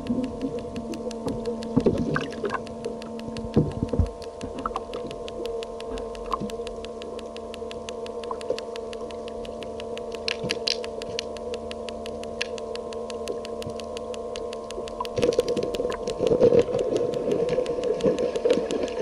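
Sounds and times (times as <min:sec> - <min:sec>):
even ticking: 0:00.0 - 0:19.0
mechanical hum with held tones: 0:00.0 - 0:19.0.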